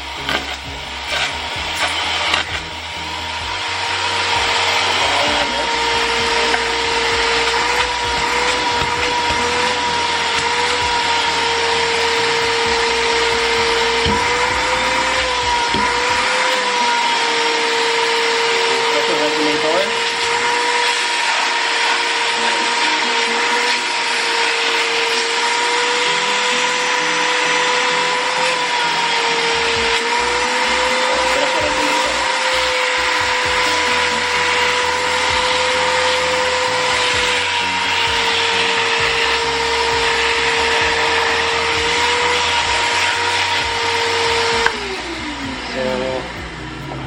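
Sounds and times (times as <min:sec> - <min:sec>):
vacuum cleaner motor whining: 0:00.0 - 0:47.0.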